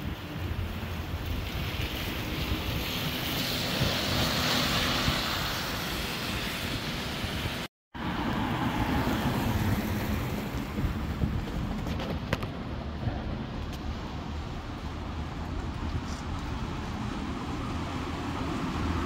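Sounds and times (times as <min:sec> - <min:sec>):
bus engine passing: 0:00.0 - 0:19.0
traffic noise: 0:00.0 - 0:19.0
wind on microphone: 0:00.0 - 0:19.0.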